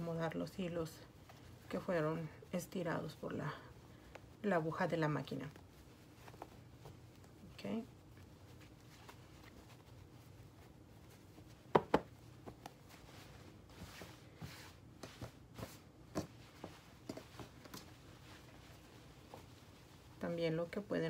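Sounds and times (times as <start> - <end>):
fabric rustling: 0.0 - 21.0.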